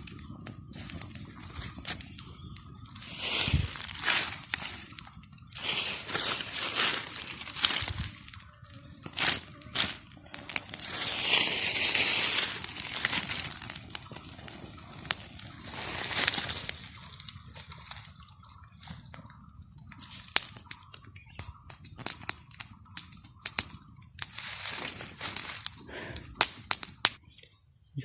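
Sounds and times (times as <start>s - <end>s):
leaves and branches rustling: 0.0s - 21.0s, 21.6s - 27.2s
high-pitched insect drone: 0.0s - 28.0s.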